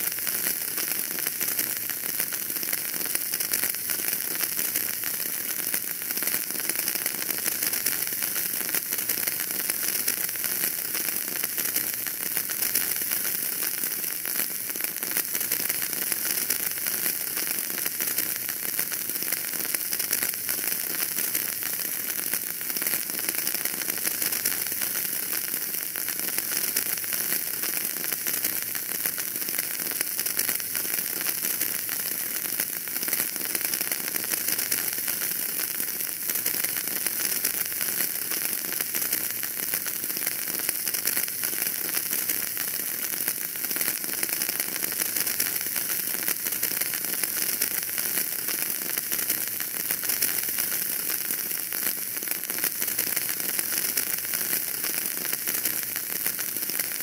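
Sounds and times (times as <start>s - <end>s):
fire crackling in a fireplace: 0.1s - 57.0s.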